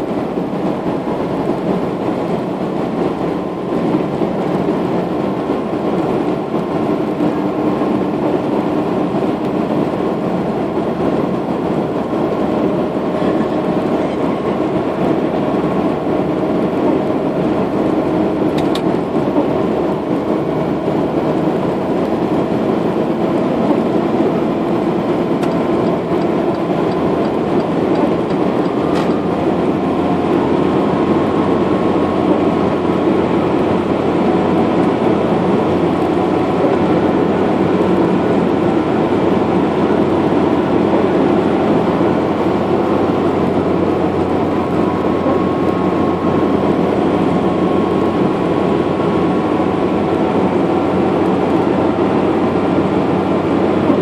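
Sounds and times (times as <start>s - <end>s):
vehicle engine and tyre noise: 0.0s - 54.0s.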